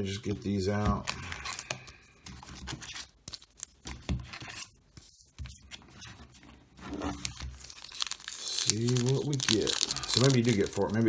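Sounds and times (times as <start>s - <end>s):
cards and wrappers being handled: 0.7s - 11.0s.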